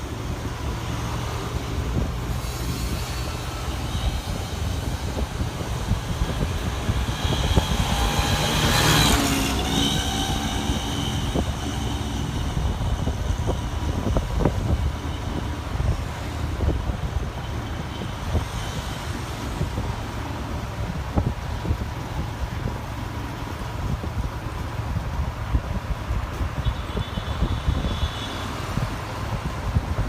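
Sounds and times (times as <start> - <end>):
bus passing: 0.0 - 30.0
rumble of traffic: 0.0 - 30.0.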